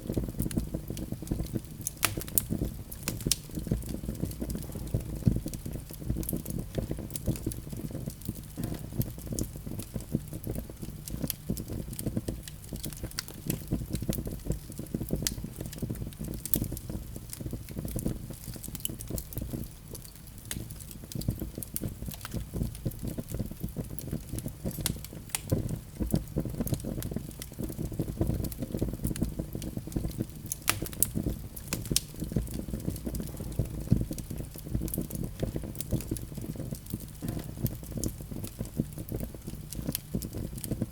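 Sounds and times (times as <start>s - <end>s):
sharp snaps of fire: 0.0s - 40.9s
wood fire crackling: 0.0s - 40.9s.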